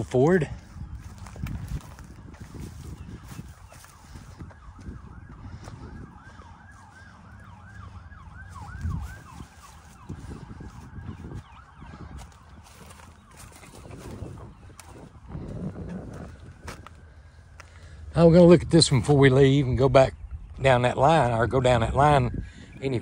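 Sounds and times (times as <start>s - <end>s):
faint siren yelping: 0.0s - 19.4s.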